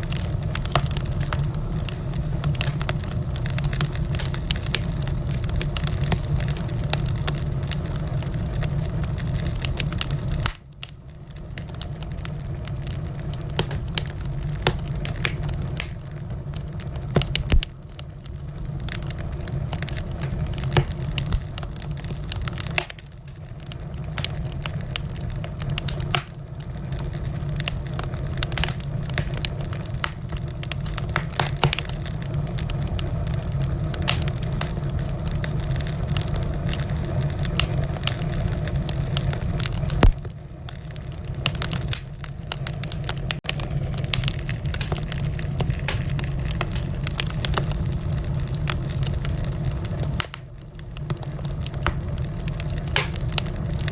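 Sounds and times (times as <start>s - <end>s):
low fire rumble: 0.0s - 53.9s
wood fire popping and snapping: 0.0s - 53.9s.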